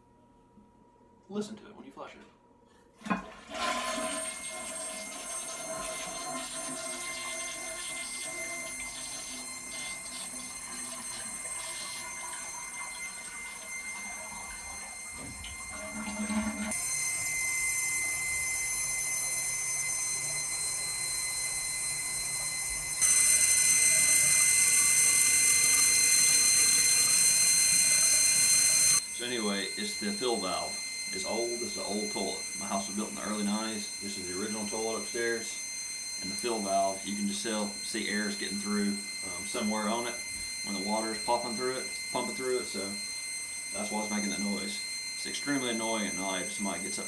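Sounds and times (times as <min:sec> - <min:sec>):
toilet fill valve whining: 0:03.0 - 0:47.0.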